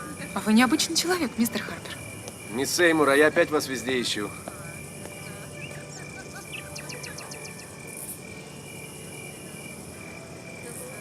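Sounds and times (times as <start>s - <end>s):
high-pitched insect trill: 0.0s - 11.0s
insects chirping: 0.0s - 11.0s.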